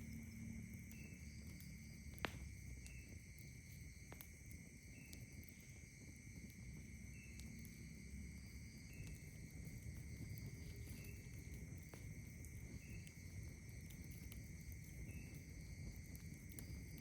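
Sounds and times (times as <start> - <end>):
campfire crackles: 0.0 - 17.0
crickets trilling: 0.0 - 17.0.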